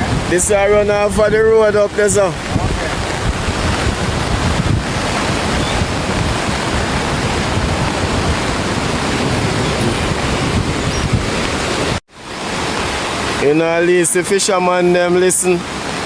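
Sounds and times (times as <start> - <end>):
wind buffeting microphone: 0.0 - 13.4
water rushing: 0.0 - 16.0.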